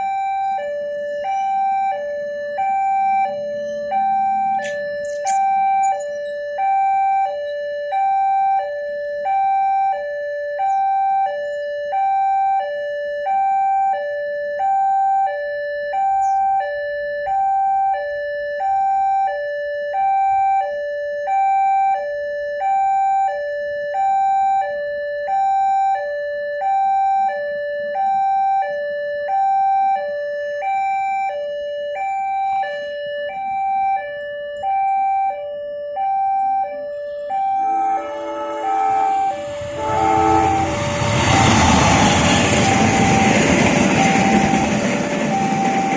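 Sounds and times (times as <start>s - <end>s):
level-crossing two-tone alarm: 0.0s - 45.9s.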